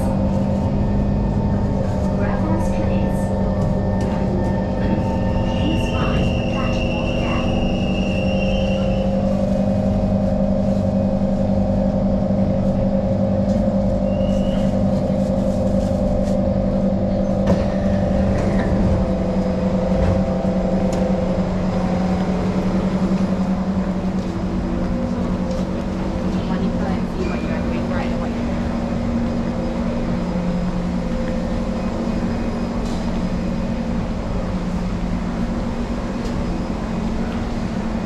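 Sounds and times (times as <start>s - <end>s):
electric train humming: 0.0s - 38.0s.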